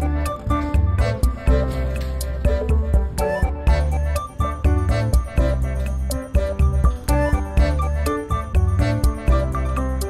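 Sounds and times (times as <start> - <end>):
background music with beat and bass: 0.0 - 10.0.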